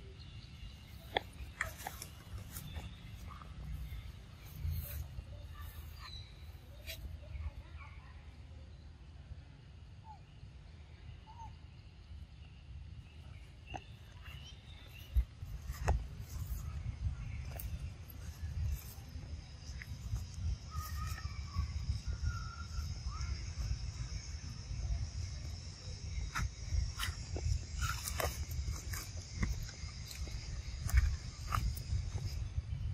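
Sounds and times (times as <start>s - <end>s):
bird chirps: 0.0s - 7.8s, 10.0s - 32.9s.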